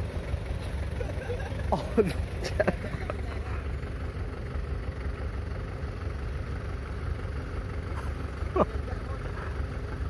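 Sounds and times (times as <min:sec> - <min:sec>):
distant tractor engines rumbling: 0:00.0 - 0:10.0.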